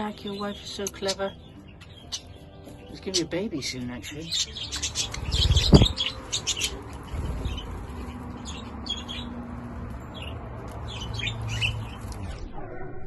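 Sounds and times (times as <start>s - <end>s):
budgerigars chirping: 0.0s - 9.4s, 10.1s - 12.2s.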